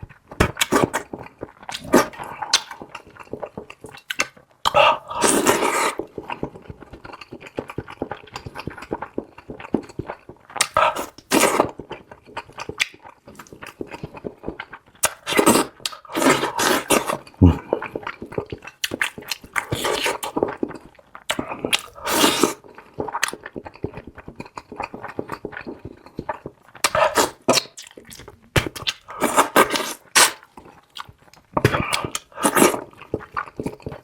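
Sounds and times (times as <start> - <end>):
wet chewing and lip-smacking: 0.0 - 34.0.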